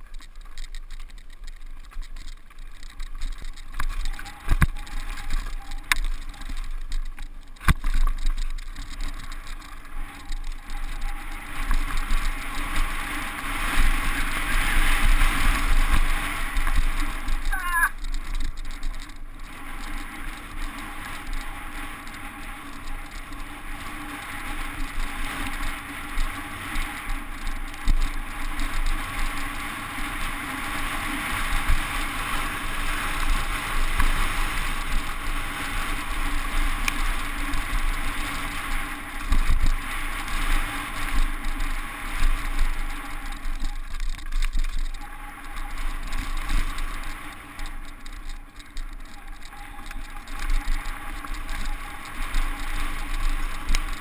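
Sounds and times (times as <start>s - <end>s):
bike rattling over rocky trail: 0.0s - 54.0s
wheels knocking on stones: 0.0s - 54.0s
wind rushing on microphone: 3.2s - 54.0s.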